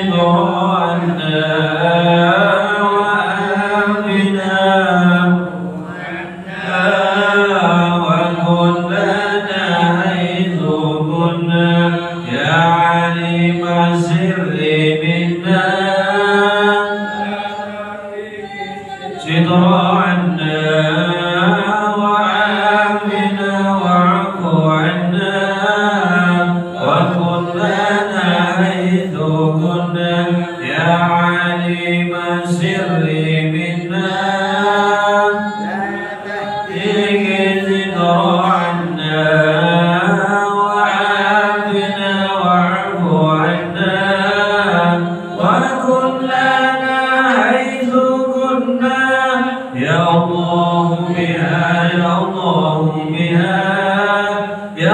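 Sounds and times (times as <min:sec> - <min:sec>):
voices chanting devotional song: 0:00.0 - 0:54.9.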